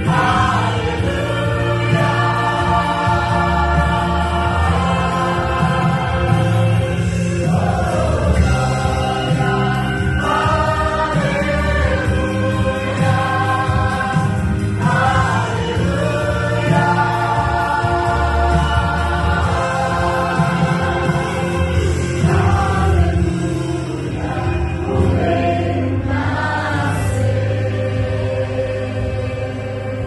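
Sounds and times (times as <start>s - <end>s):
low steady accompaniment: 0.0s - 30.0s
vocal ensemble singing in harmony: 0.0s - 30.0s.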